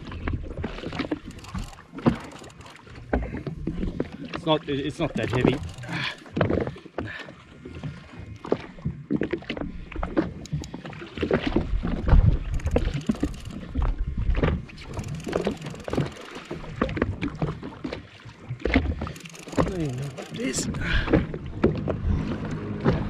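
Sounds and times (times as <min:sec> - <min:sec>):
waves lapping against hull: 0:00.0 - 0:23.0.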